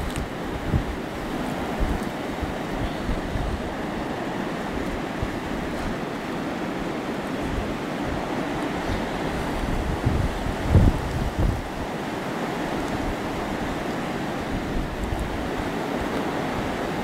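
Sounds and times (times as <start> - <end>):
blizzard wind blowing: 0.0 - 17.0
wind gusts buffeting microphone: 0.0 - 17.0.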